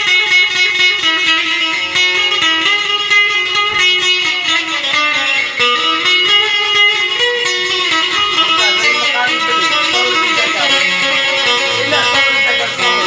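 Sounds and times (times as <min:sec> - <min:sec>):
amplified plucked string melody: 0:00.0 - 0:13.0.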